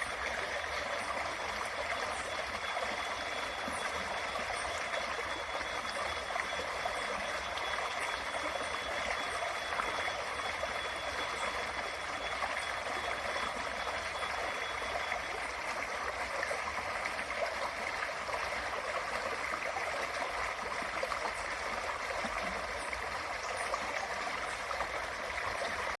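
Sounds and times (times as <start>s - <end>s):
creek babbling: 0.0s - 26.0s
faint high steady tone: 0.0s - 26.0s.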